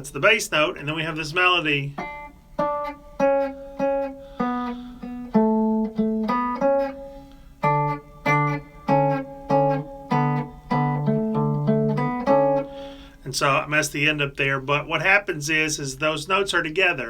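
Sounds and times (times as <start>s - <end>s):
fingerstyle guitar: 0.0s - 17.0s.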